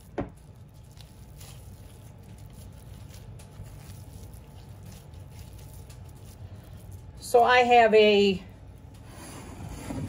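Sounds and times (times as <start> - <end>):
squishing of raw ground meat: 0.0 - 9.0
low steady hum: 0.0 - 10.0.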